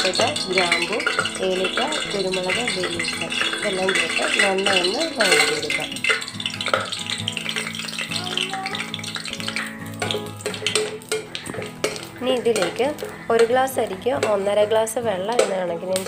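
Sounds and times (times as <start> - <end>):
background music with voice: 0.0 - 6.4, 7.3 - 16.0
metal spoon clicking against pot: 0.0 - 8.0, 8.7 - 16.0
spices sizzling in hot oil: 0.0 - 16.0.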